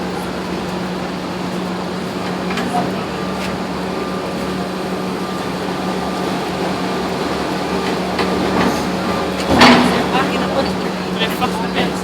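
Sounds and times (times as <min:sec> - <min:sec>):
excavator diesel engine humming: 0:00.0 - 0:12.0.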